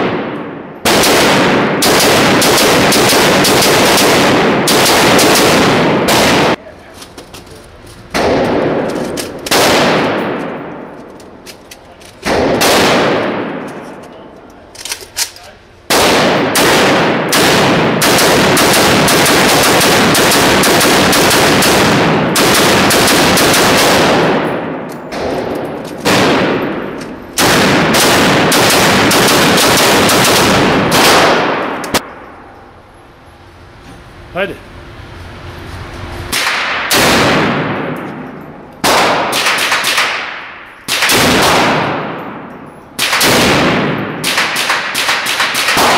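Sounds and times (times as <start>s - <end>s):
rifle gunshots echoing: 0.0s - 6.6s, 8.1s - 10.9s, 12.2s - 13.9s, 15.8s - 32.4s, 36.3s - 45.9s.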